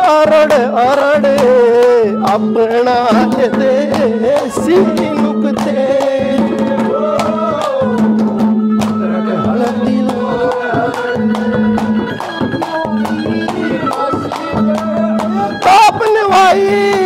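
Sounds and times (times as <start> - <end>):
hand-drum strokes: 0.0 - 17.0
held melody line: 0.0 - 17.0.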